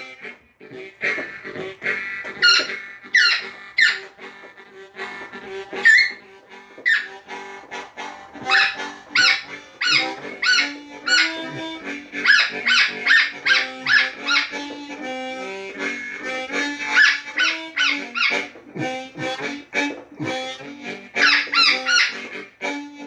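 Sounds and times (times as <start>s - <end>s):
blues harmonica: 0.0s - 23.0s.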